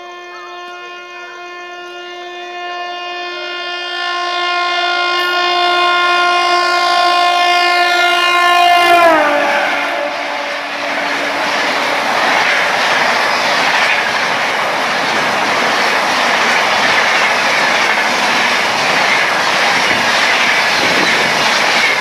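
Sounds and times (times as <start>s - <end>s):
train horn: 0.0s - 21.3s
train rushing past: 0.0s - 22.0s.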